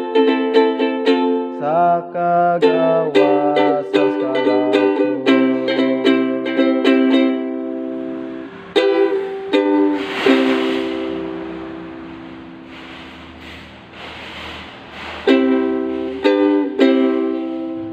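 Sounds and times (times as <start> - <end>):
ukulele strumming: 0.0 - 17.9.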